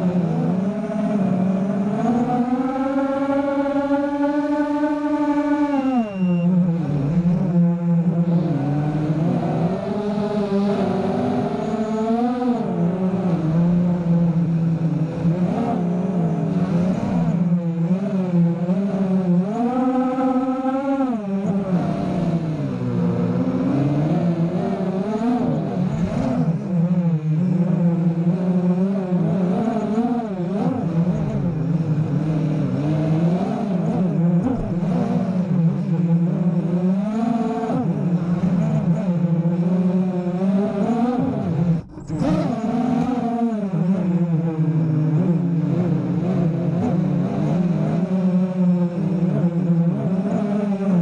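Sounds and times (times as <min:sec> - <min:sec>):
quadcopter motors whining: 0:00.0 - 0:51.0.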